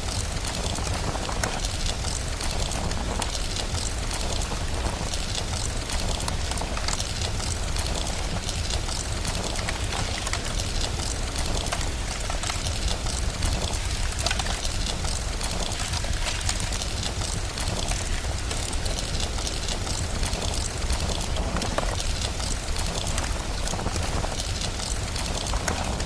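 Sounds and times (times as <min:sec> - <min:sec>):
low continuous rumble: 0:00.0 - 0:26.0
steady rain: 0:00.0 - 0:26.0
wood fire crackling: 0:00.0 - 0:26.0.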